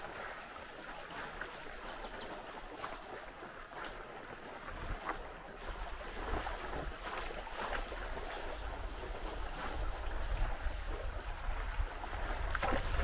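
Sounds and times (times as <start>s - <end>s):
water splashing: 0.0s - 13.0s
wind on microphone: 0.0s - 13.0s.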